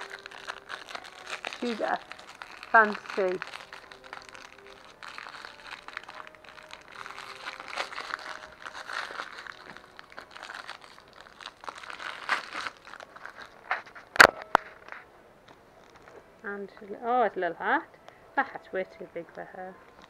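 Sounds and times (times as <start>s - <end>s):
plastic wrapping crinkling: 0.0s - 17.3s, 19.2s - 20.0s.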